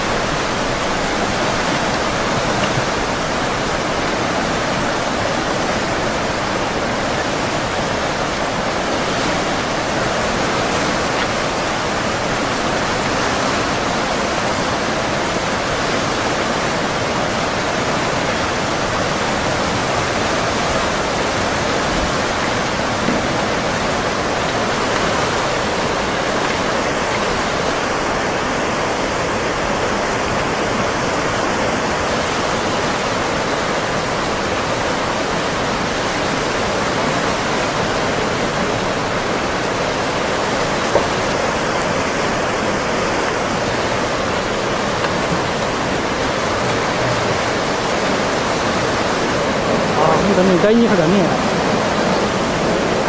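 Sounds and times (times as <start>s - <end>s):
floodwater rushing: 0.0s - 53.0s.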